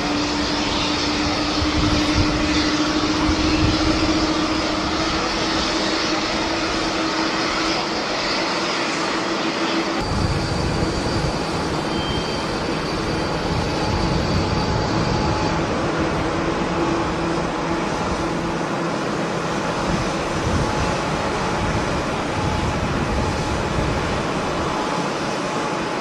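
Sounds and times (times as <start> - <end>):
wind buffeting microphone: 0.0 - 8.4, 10.0 - 26.0
jet engine noise: 0.0 - 26.0.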